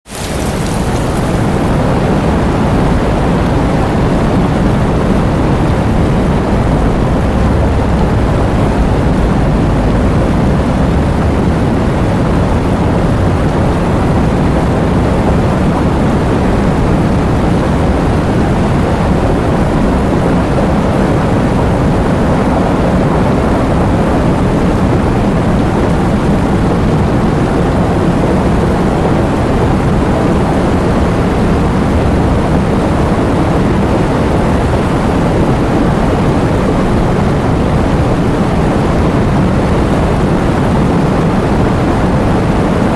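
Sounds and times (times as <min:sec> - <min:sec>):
heavy rain: 0:00.0 - 0:42.9
wind: 0:00.0 - 0:42.9.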